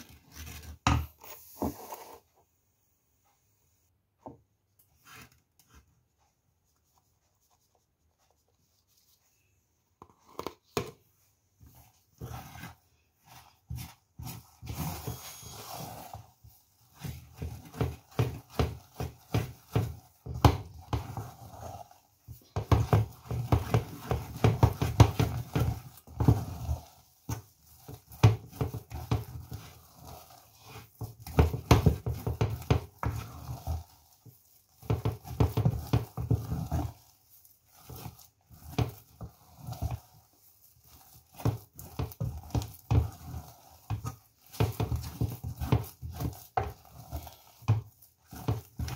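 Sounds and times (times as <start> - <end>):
wooden spatula beating dough: 0.0 - 2.4, 3.9 - 48.9.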